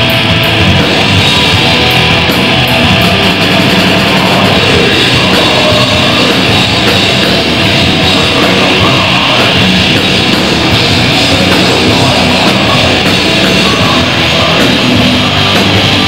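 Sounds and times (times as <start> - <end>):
distorted electric guitar: 0.0 - 16.0
drum kit: 0.0 - 16.0
heavy metal band playing live: 0.0 - 16.0.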